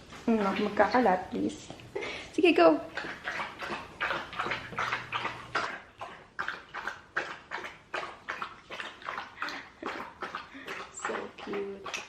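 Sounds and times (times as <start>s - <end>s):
dog lapping water: 0.4s - 1.4s, 2.5s - 12.0s.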